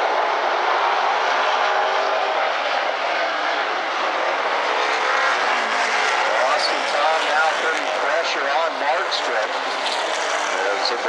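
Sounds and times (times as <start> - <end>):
stock car engines droning at racing speed: 0.0 - 11.0.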